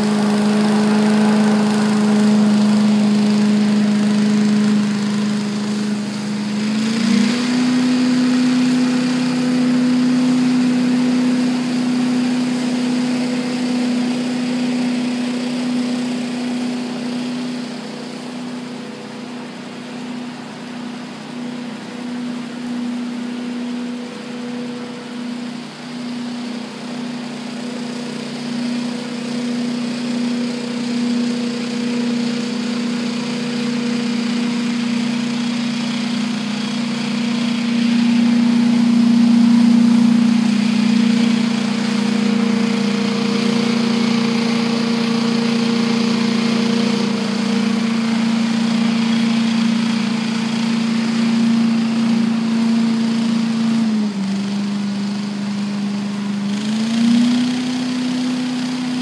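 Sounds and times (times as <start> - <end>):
leaf blower engine running: 0.0 - 59.0.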